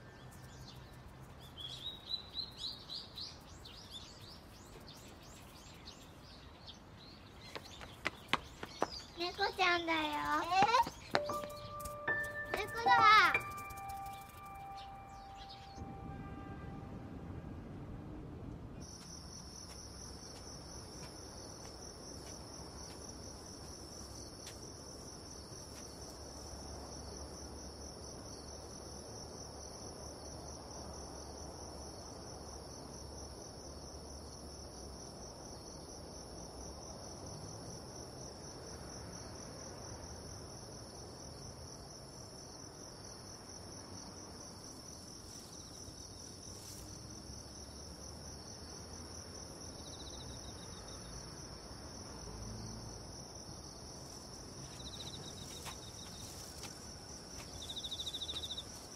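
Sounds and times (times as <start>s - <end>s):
crickets chirring: 0.0s - 17.9s, 18.7s - 58.9s.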